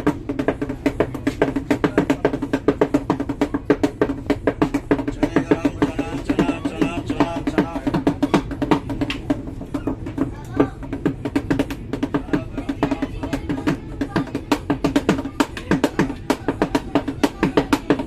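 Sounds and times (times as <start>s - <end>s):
pitched drum beating fast: 0.0s - 18.0s.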